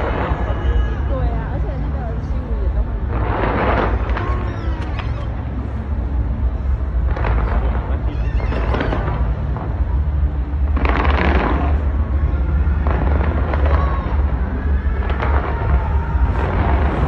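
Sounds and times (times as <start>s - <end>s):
fireworks booming: 0.0s - 17.0s
fireworks crackling: 0.0s - 17.0s.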